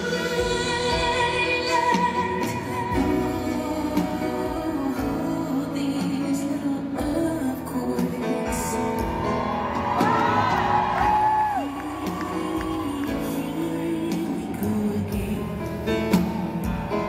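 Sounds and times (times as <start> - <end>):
woman singing: 0.0 - 9.4, 10.8 - 17.0
grand piano: 0.0 - 17.0.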